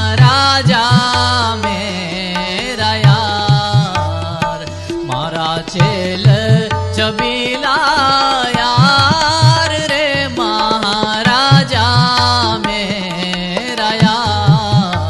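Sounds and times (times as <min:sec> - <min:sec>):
ornamented devotional singing: 0:00.0 - 0:15.0
tabla strokes: 0:00.0 - 0:15.0.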